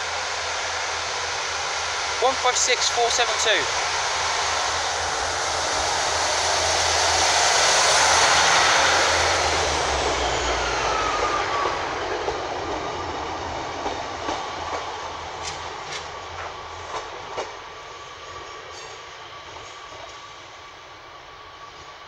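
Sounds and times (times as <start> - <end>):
diesel train engines: 0.0 - 22.0
train coaches rushing past: 0.8 - 22.0.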